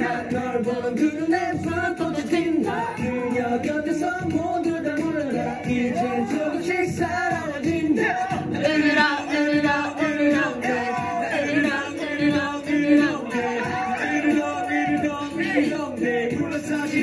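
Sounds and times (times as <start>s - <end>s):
backing track: 0.0s - 17.0s
male group singing pop song: 0.0s - 17.0s.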